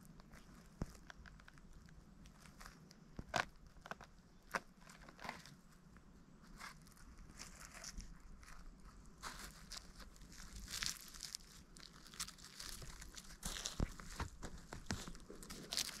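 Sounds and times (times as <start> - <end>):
dry twigs and leaves crunching: 0.0 - 5.8, 6.4 - 16.0.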